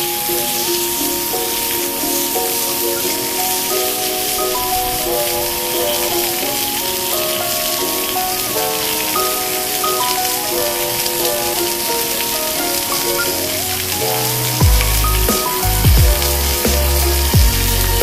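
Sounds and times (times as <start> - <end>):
background music melody: 0.0 - 18.0.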